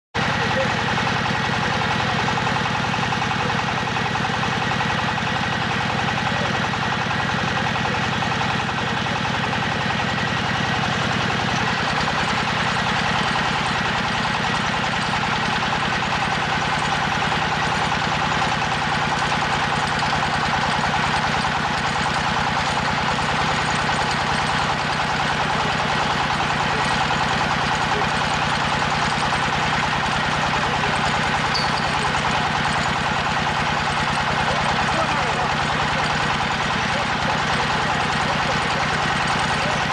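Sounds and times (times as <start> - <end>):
hydraulic drilling rig running: 0.2 - 39.9.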